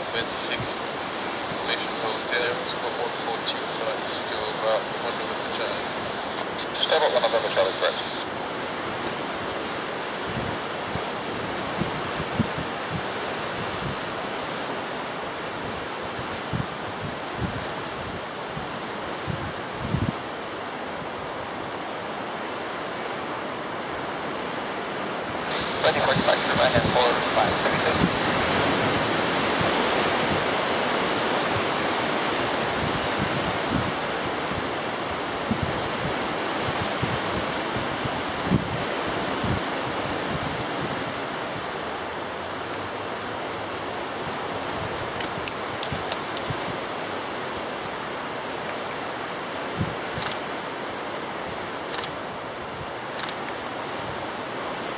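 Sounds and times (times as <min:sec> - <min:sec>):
strong gusty wind on microphone: 0:00.0 - 0:03.8, 0:07.6 - 0:54.9.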